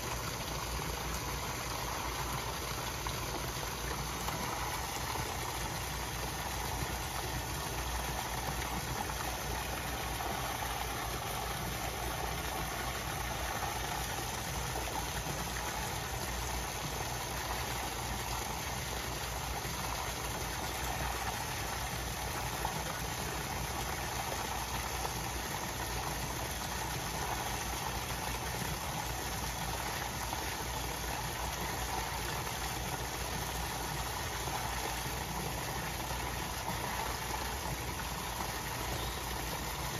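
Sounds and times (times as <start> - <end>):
low pump hum: 0.0 - 39.9
water churning: 0.0 - 39.9.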